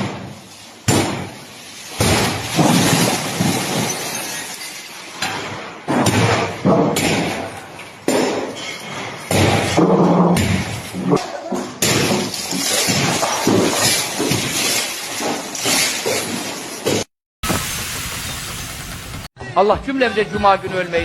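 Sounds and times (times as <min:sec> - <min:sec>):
glass crashing and shattering: 0:00.0 - 0:18.9.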